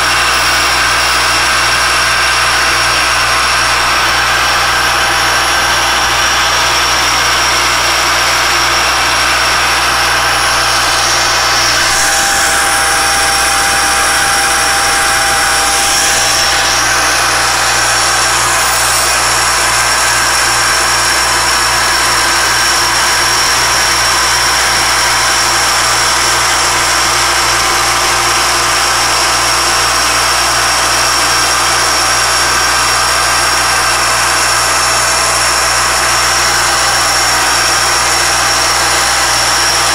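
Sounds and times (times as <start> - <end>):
engraving machine high whine: 0.0 - 39.9.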